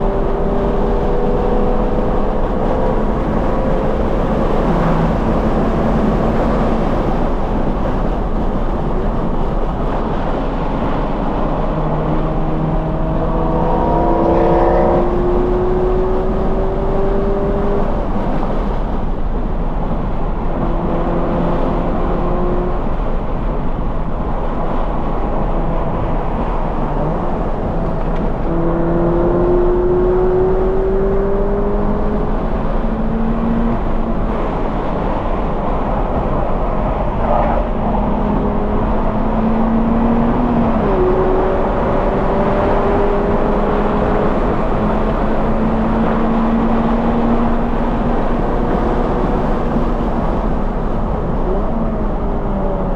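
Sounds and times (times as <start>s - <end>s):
car engine revving through gears: 0.0s - 18.7s, 20.6s - 22.9s, 24.8s - 34.9s, 35.8s - 52.9s
heavy rushing noise: 0.0s - 52.9s.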